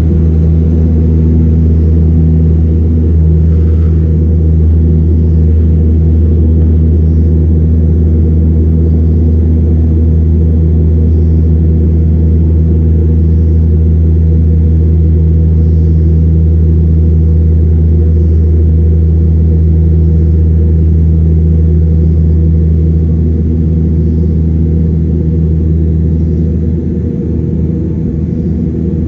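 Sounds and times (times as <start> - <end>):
turboprop engines droning: 0.0 - 29.0.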